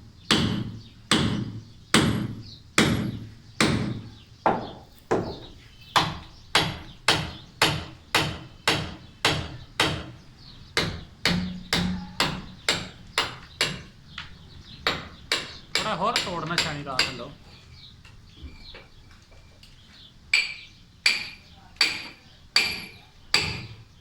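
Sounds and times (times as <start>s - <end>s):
hammer striking a chisel: 0.3s - 10.2s, 10.8s - 17.3s, 20.3s - 23.8s.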